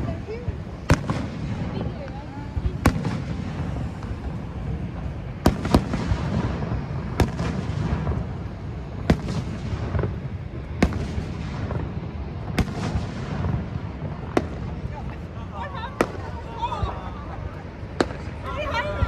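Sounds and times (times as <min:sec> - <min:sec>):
fireworks bangs: 0:00.0 - 0:19.0
steady low rumble: 0:00.0 - 0:19.0.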